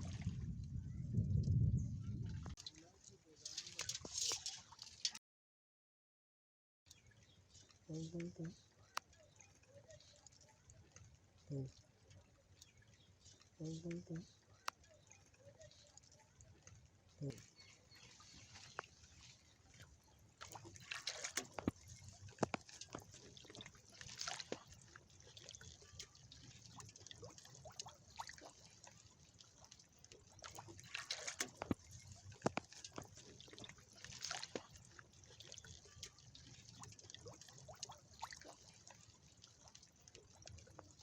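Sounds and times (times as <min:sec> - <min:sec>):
water splashing: 0:00.0 - 0:00.6, 0:02.2 - 0:05.2, 0:07.5 - 0:41.0
small clicks and drips: 0:02.2 - 0:05.2, 0:06.9 - 0:41.0.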